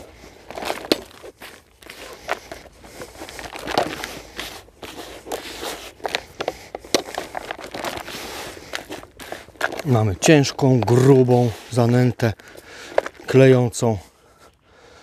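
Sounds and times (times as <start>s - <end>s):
hands kneading wet groundbait: 0.0s - 14.0s.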